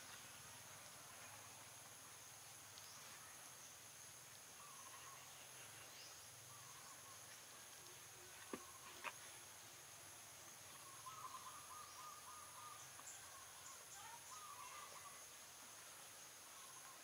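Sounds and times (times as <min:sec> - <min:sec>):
faint chirps: 0:00.0 - 0:17.0
high insect drone: 0:00.0 - 0:17.0.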